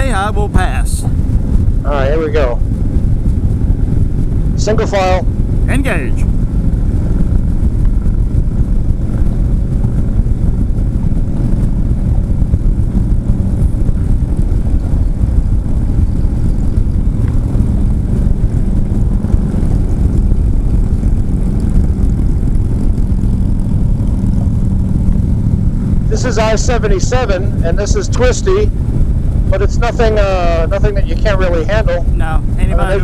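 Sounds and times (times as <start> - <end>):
motorcycle engine drone: 0.0 - 33.0
wind rush on microphone: 0.0 - 33.0.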